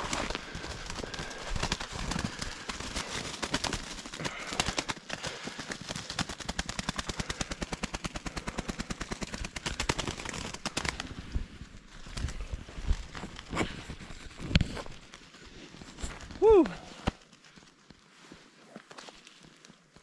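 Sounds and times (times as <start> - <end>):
bird wings beating on leaves: 0.0 - 18.2.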